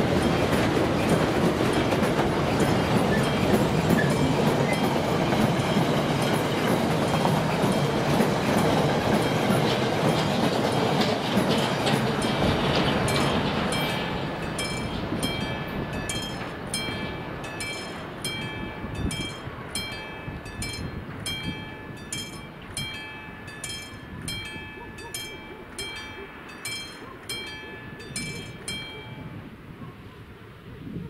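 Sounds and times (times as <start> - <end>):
level crossing warning bell: 0.0 - 29.8
freight train rumble: 0.0 - 31.0.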